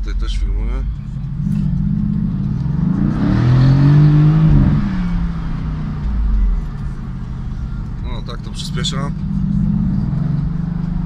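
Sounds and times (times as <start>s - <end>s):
car engine accelerating from cabin: 0.0s - 11.0s.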